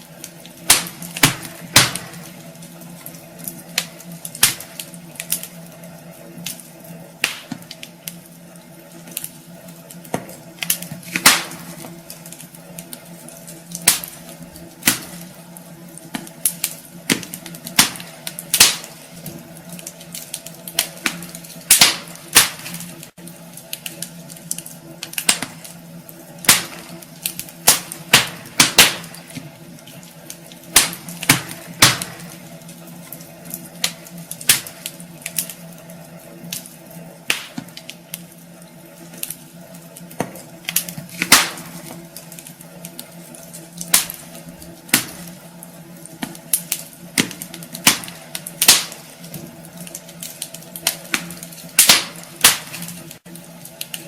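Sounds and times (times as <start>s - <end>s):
steady low hum: 0.0s - 54.0s
wood fire crackling: 0.0s - 54.0s.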